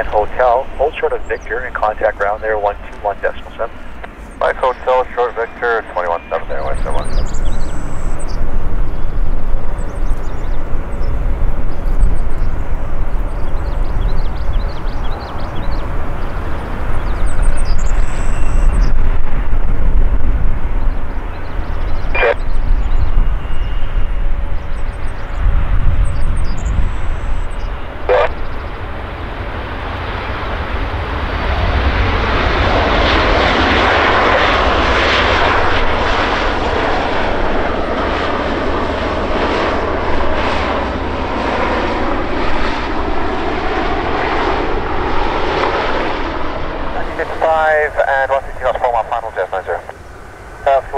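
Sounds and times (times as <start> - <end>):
airliner engines rumbling: 0.0 - 50.9.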